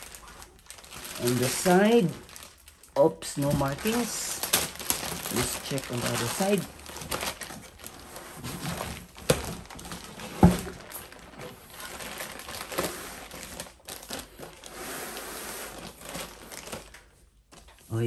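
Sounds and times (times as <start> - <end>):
plastic wrapping crinkling: 0.0 - 18.0.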